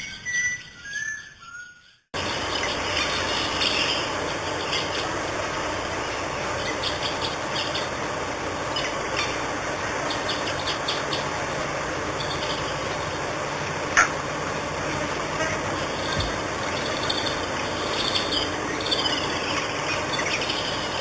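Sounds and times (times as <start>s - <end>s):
birds chirping: 0.0s - 21.0s
steady rushing noise: 2.2s - 21.0s.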